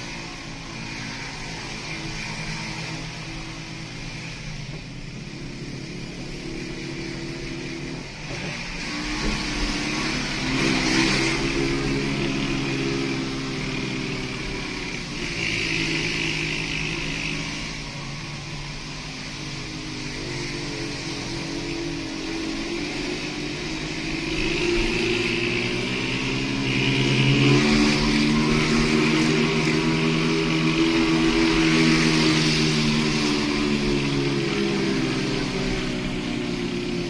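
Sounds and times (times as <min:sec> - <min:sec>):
motorcycle engine under load: 0:00.0 - 0:37.0
road noise: 0:00.0 - 0:37.0.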